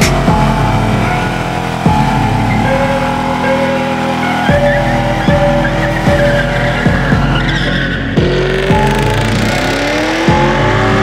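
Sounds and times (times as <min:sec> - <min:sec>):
car engine revving: 0:00.0 - 0:11.0
hip-hop beat: 0:00.0 - 0:11.0
tyres squealing: 0:00.8 - 0:11.0.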